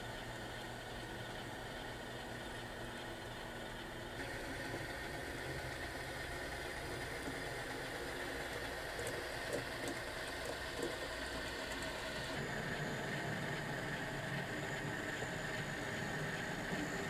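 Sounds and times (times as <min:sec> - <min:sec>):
model train engine drone: 0:00.0 - 0:17.0.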